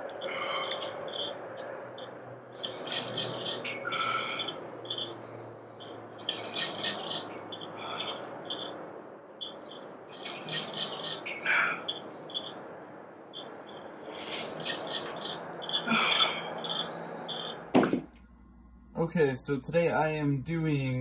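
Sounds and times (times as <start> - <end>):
gym equipment rattling and clinking: 0.0 - 8.8, 9.4 - 12.6, 13.3 - 18.1.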